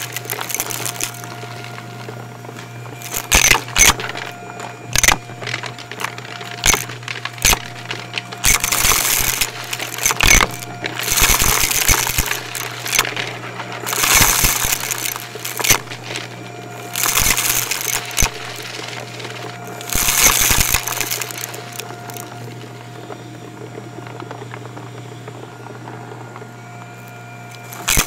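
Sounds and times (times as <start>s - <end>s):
debris clicking in vacuum: 0.0s - 28.0s
vacuum cleaner humming: 0.0s - 28.0s.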